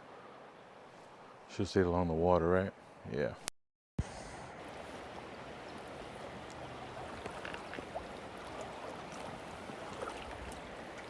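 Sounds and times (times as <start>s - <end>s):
flowing creek: 0.0s - 3.0s, 4.0s - 11.0s.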